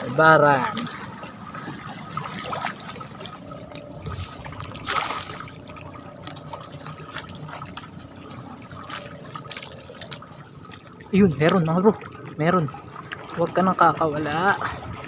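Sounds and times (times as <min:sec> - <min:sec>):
water sloshing around wading person: 0:00.0 - 0:15.0.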